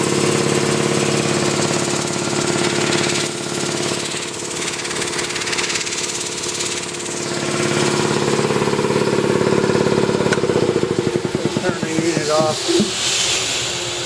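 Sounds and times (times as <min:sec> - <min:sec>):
electric air compressor running: 0:00.0 - 0:14.0.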